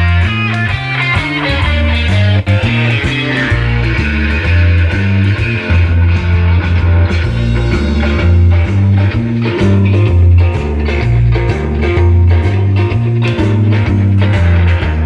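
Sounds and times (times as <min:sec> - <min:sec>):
rock music through speakers: 0:00.0 - 0:15.0.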